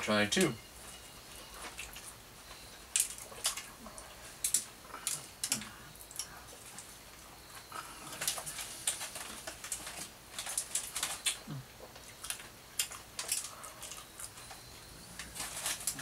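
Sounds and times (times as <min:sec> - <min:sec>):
people chewing: 0:00.4 - 0:16.0.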